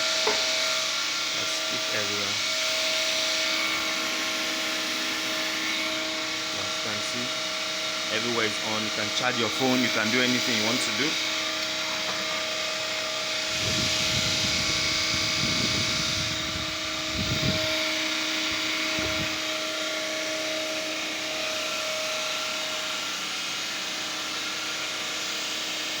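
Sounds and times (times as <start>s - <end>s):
generator whining: 0.0s - 26.0s.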